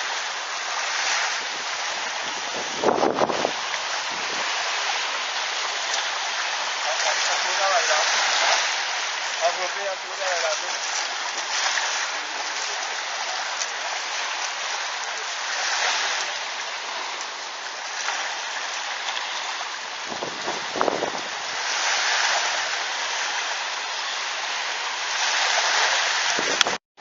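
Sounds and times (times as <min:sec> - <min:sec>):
small sea waves breaking on beach: 0:00.0 - 0:26.8.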